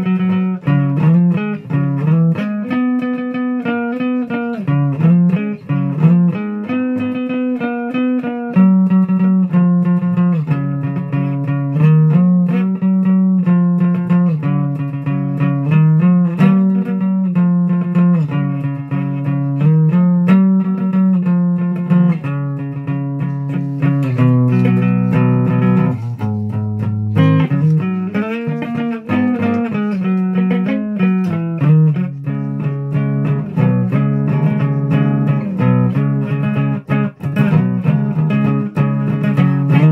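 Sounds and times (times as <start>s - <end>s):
plucked guitar notes: 0.0s - 39.9s.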